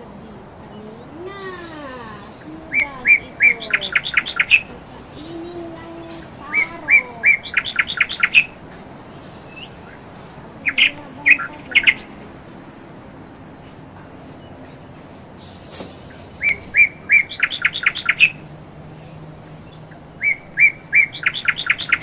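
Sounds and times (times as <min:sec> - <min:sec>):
bird chirping song: 0:00.0 - 0:22.0.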